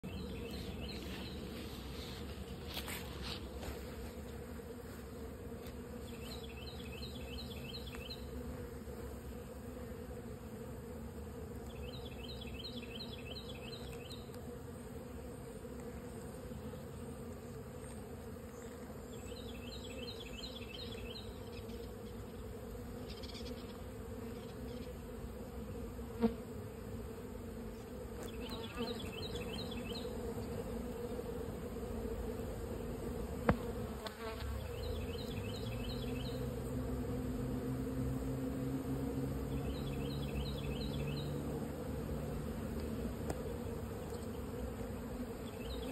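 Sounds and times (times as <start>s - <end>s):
honeybees humming: 0.0s - 45.9s.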